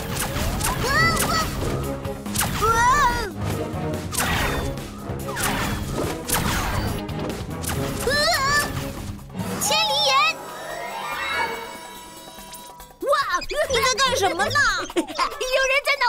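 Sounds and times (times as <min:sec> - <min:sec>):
action background music: 0:00.0 - 0:16.0.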